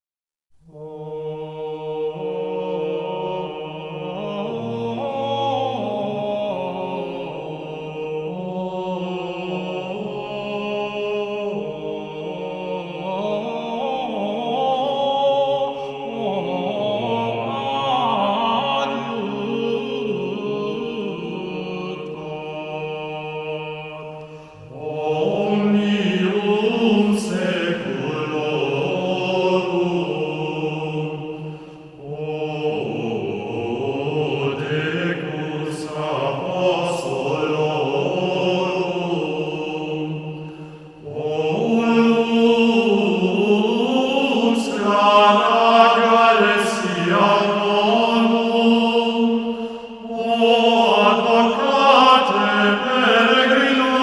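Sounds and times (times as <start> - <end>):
chant-like vocal music: 0.6 - 54.0.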